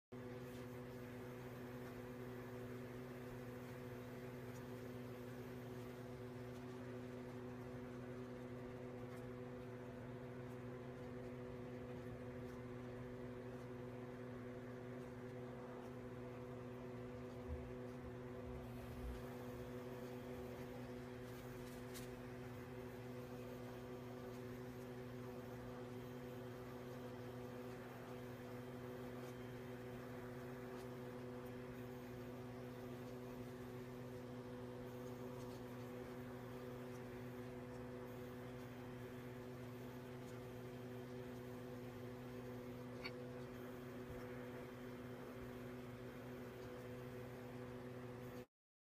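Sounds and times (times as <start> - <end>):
electrical hum: 0.0 - 48.5.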